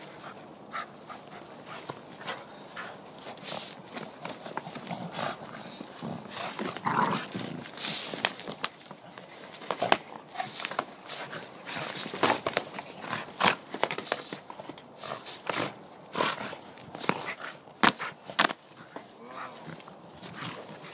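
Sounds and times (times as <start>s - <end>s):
dogs tearing at plush toy: 1.1s - 20.9s.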